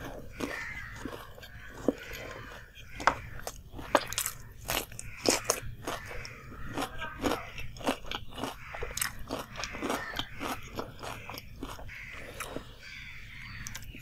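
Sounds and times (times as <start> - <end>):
chewing crisp fried pastry: 0.0 - 14.0.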